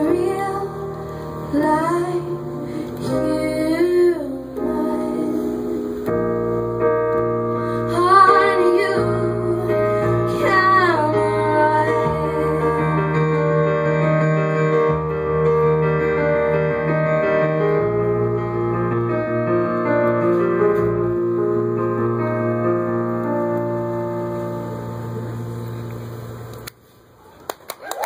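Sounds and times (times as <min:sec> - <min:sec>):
upright piano chords: 0:00.0 - 0:26.7.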